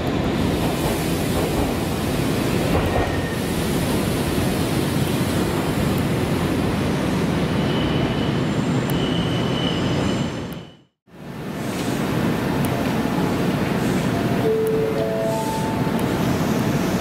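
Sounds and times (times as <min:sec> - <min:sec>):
electric trains rumbling: 0:00.0 - 0:17.0.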